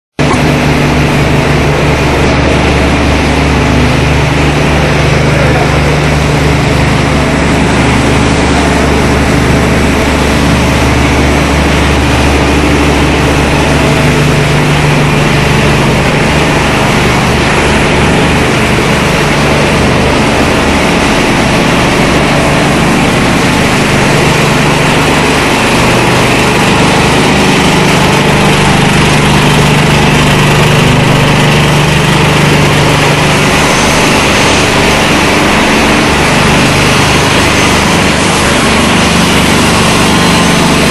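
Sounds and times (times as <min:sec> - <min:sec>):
machinery deep hum: 0:00.2 - 0:40.9.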